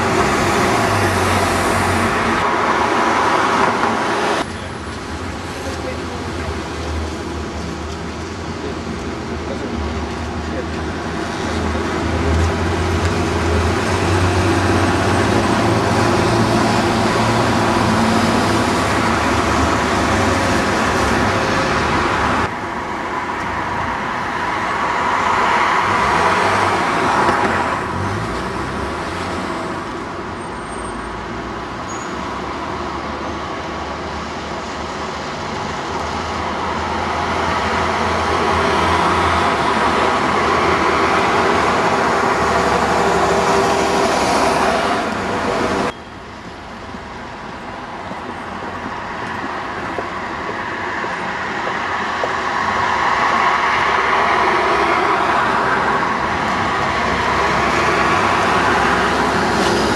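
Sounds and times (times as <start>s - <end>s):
diesel buses passing: 0.0s - 59.9s
double-decker bus engine approaching: 0.0s - 59.9s.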